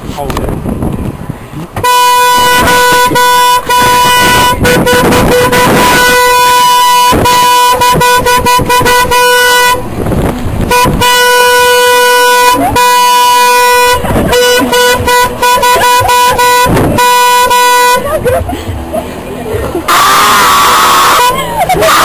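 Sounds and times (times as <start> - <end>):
car horn blast: 1.8 - 9.9, 10.6 - 18.3, 19.9 - 22.0.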